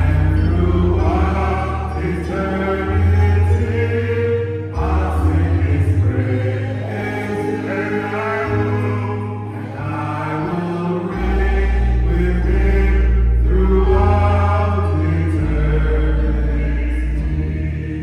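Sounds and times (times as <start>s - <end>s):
choir-like singing: 0.0s - 18.0s
electronic keyboard chords: 0.0s - 18.0s.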